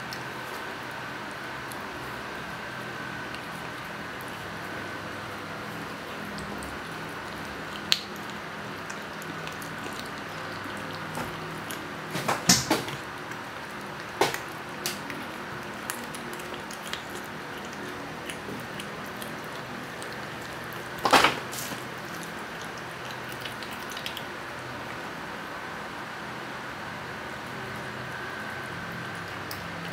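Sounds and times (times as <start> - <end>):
cat chewing and smacking: 0.0 - 25.1, 27.3 - 29.9.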